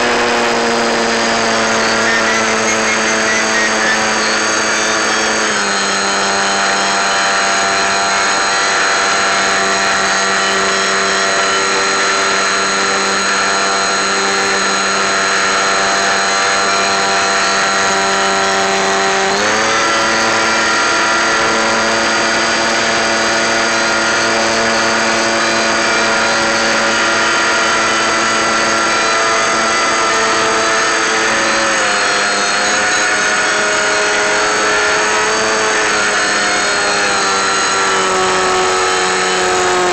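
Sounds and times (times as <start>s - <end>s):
model aeroplane motor and propeller: 0.0s - 39.9s.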